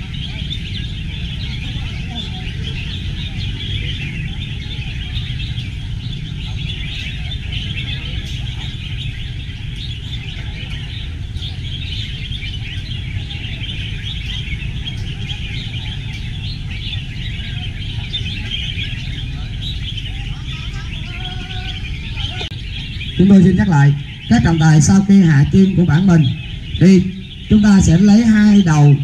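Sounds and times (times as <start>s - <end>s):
birds singing and calling: 0.0s - 29.0s
steady low rumble: 0.0s - 29.0s.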